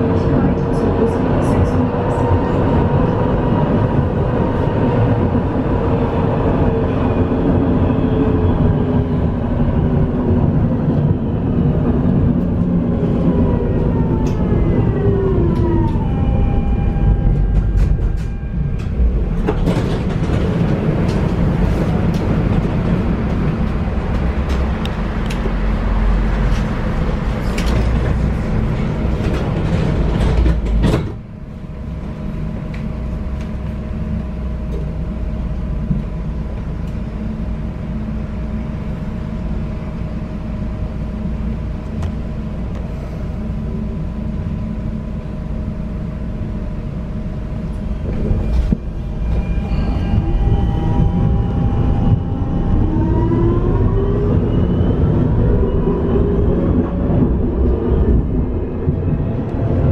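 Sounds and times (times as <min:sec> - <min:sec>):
tram motor whine: 0:00.0 - 0:59.9
wheels rumbling on rail: 0:00.0 - 0:59.9.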